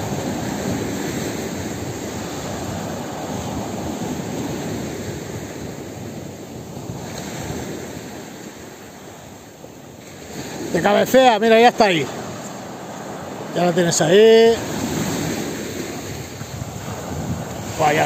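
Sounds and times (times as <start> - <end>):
wind on microphone: 0.0 - 11.1, 11.9 - 18.0
surf breaking on beach: 0.0 - 18.0.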